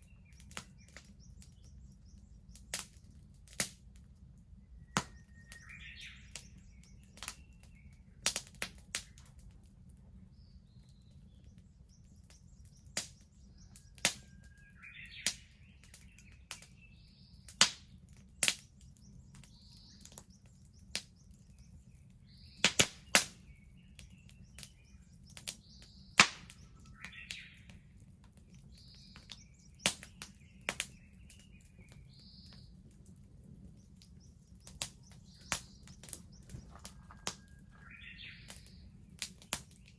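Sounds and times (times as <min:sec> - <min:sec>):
birds chirping: 0:00.0 - 0:03.3, 0:04.5 - 0:39.9
wood bonfire crackling: 0:00.0 - 0:39.9.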